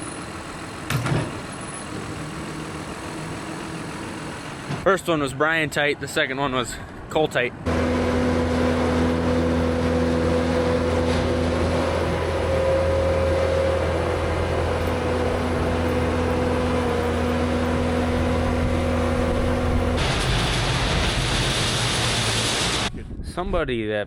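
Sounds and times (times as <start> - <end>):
engine running steadily: 0.0 - 6.0, 6.7 - 22.9.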